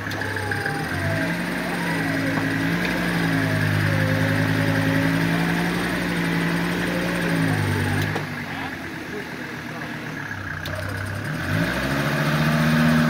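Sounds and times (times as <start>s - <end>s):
buggy engine running: 0.0s - 13.0s.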